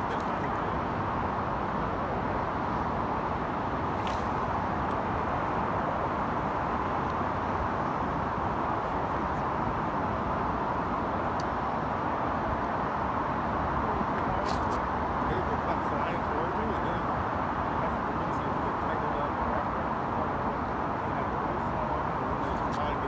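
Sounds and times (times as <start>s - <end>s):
road traffic hum: 0.0s - 23.0s.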